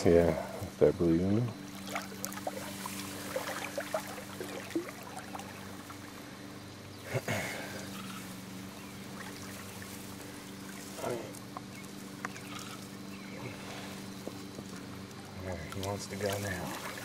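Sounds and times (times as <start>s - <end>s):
river water trickling and lapping: 1.6s - 7.0s, 7.7s - 17.0s.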